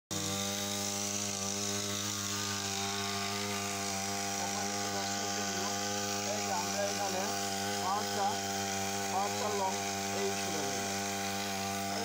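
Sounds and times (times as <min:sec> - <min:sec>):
small two-stroke engine running: 0:00.1 - 0:12.0.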